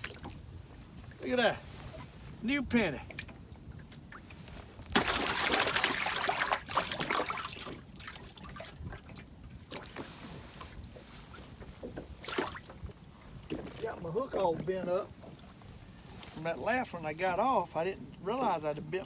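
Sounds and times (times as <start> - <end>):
water splashing and trickling: 0.0 - 2.2, 2.8 - 19.0.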